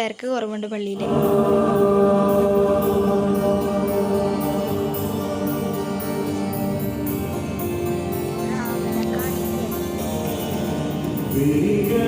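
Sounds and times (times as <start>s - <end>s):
church choir singing a hymn: 1.0s - 12.0s
instrumental accompaniment: 1.0s - 12.0s.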